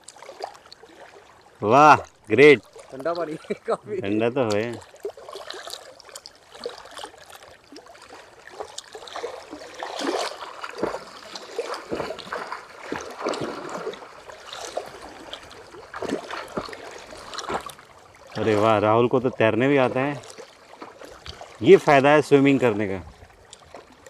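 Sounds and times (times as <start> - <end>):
water splashing and lapping: 0.0 - 24.0.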